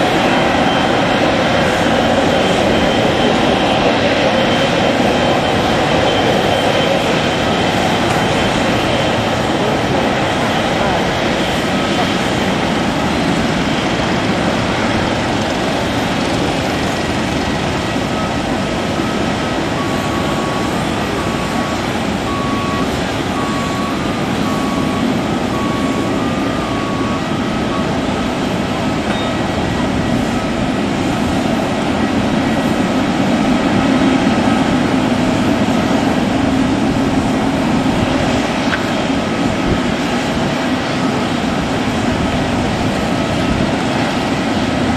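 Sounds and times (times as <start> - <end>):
jet engine rumble and hiss: 0.0 - 44.9
reversing alarm beeps: 0.0 - 44.9.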